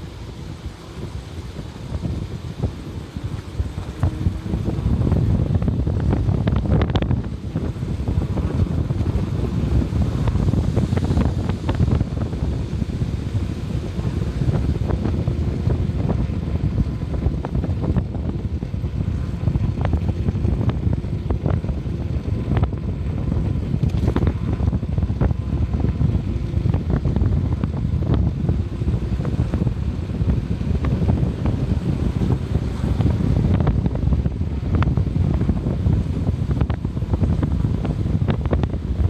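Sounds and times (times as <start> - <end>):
vehicle travelling on road: 0.0 - 39.0
wind rumble on microphone: 0.0 - 39.0.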